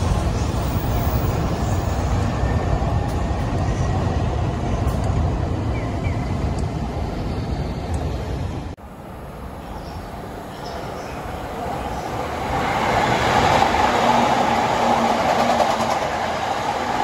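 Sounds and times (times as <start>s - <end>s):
train rumbling overhead: 0.0s - 17.0s.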